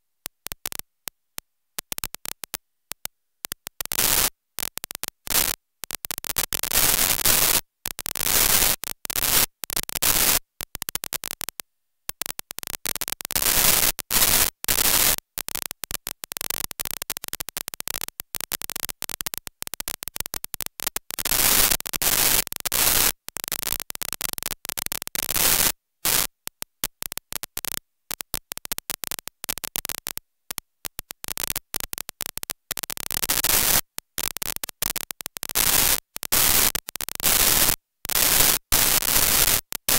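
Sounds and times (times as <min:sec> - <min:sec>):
harsh static hiss: 0:01.8 - 0:39.9.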